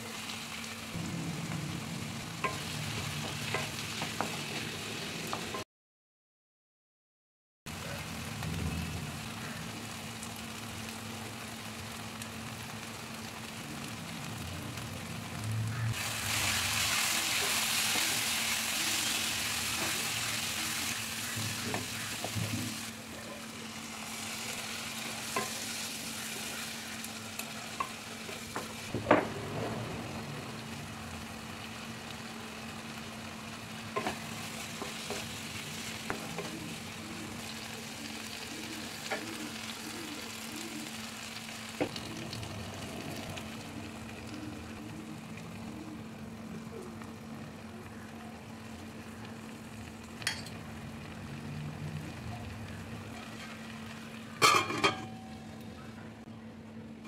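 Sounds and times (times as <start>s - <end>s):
food sizzling in a pan: 0.0s - 5.6s, 7.7s - 55.5s.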